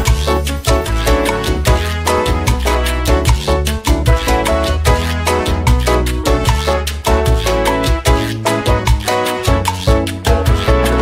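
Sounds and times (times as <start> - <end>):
music with quick steady beat: 0.0 - 11.0.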